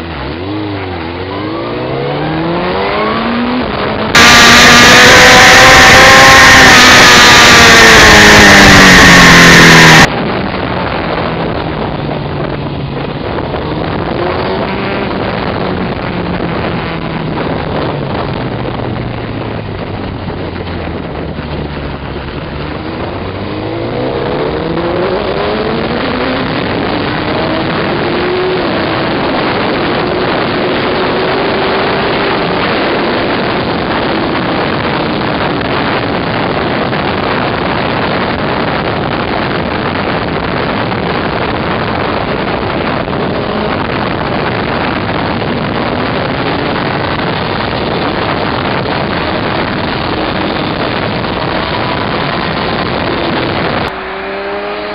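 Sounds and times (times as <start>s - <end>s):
motorcycle engine revving: 0.0s - 54.9s
wind rush on microphone: 0.0s - 54.9s.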